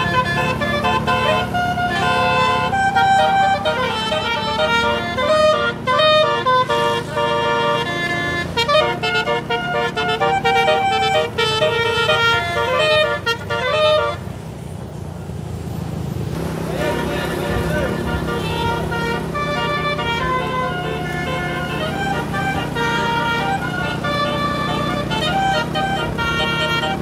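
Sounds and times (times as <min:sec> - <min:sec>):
multi-note bus horn tune: 0:00.0 - 0:14.3, 0:16.5 - 0:27.0
low vehicle rumble: 0:00.0 - 0:27.0
road noise: 0:00.0 - 0:27.0.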